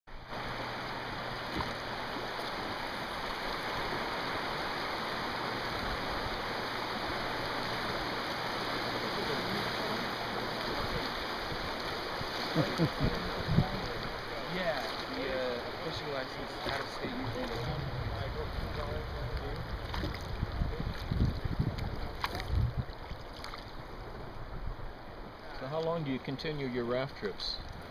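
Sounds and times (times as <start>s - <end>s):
river water rushing: 0.1s - 27.9s.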